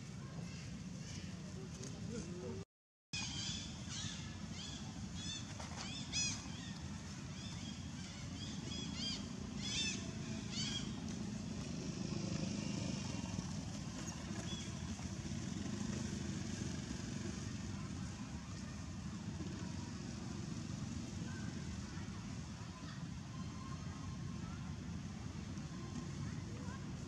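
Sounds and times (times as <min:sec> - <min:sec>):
distant motor traffic: 0:00.0 - 0:02.6, 0:03.2 - 0:27.0.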